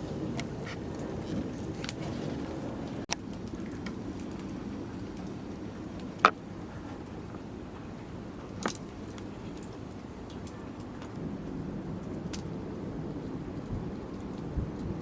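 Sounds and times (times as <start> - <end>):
campfire burning: 0.0 - 15.0
fire popping: 0.0 - 15.0.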